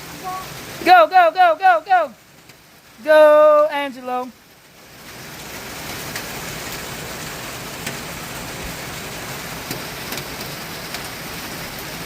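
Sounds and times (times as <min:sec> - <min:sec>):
heavy rain pouring: 0:00.0 - 0:12.0
raindrops ticking: 0:00.0 - 0:12.0.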